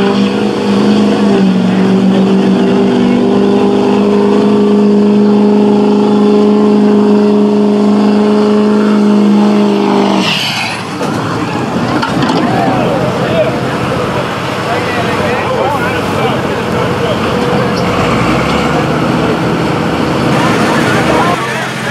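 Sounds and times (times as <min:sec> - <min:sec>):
diesel pickup engine at full throttle: 0:00.0 - 0:21.9.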